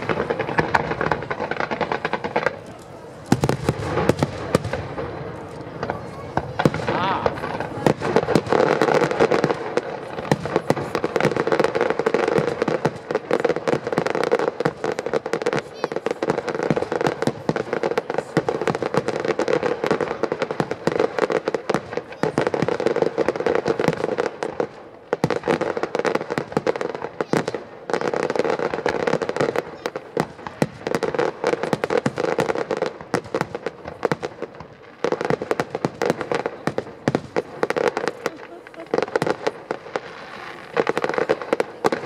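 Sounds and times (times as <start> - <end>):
fireworks pops and bangs: 0.0 - 42.0.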